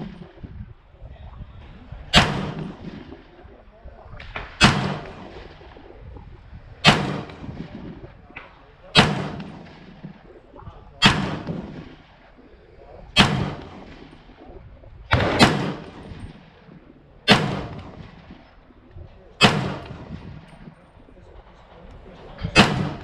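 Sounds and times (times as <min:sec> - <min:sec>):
rifle shots with echo: 0:00.0 - 0:00.5, 0:02.0 - 0:06.1, 0:06.7 - 0:23.0.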